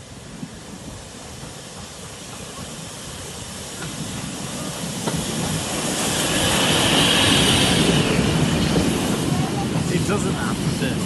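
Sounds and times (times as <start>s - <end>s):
train hissing: 0.0s - 11.0s.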